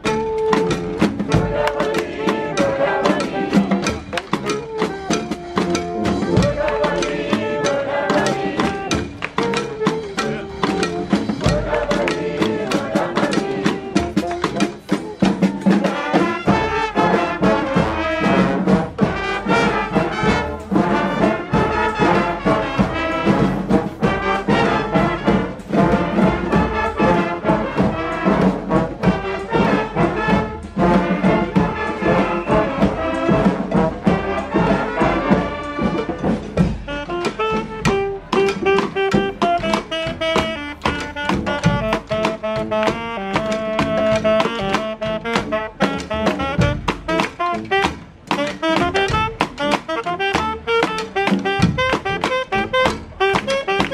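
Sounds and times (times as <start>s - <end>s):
brass street band playing: 0.0s - 53.9s
steady drum beat: 0.0s - 53.9s.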